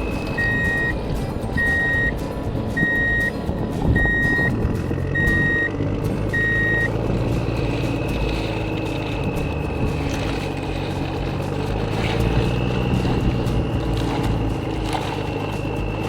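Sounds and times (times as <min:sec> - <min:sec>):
toy reversing beeper: 0:00.0 - 0:02.2, 0:02.8 - 0:16.0
electric motor whine: 0:00.0 - 0:16.0
low rumble: 0:00.0 - 0:16.0.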